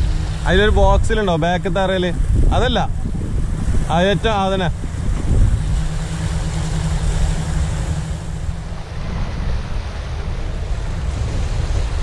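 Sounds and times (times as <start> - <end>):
waves breaking against rocks: 0.0 - 12.0
wind noise on microphone: 0.0 - 12.0.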